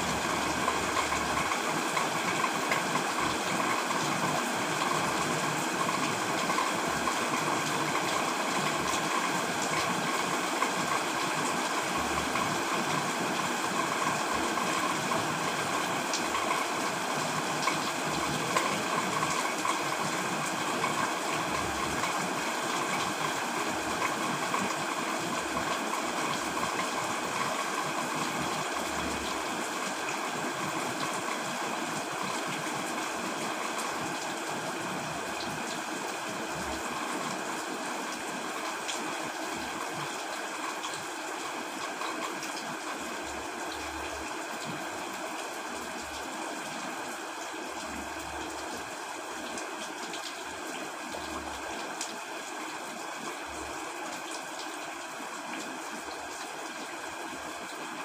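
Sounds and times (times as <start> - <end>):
heavy rain falling: 0.1 - 58.0.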